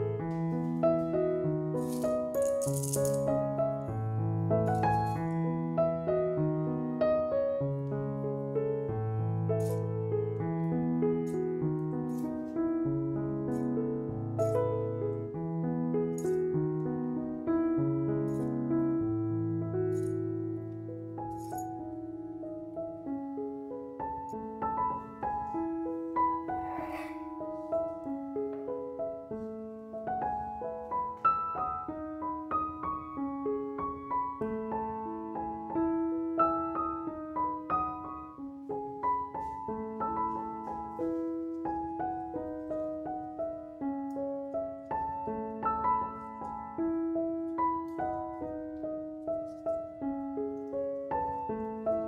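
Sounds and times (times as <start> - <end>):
gentle piano music: 0.0 - 52.0.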